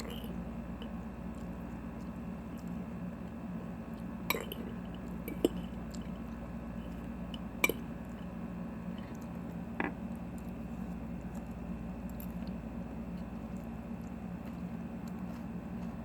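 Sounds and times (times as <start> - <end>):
person chewing: 0.0 - 16.0
steady low hum: 0.0 - 16.0.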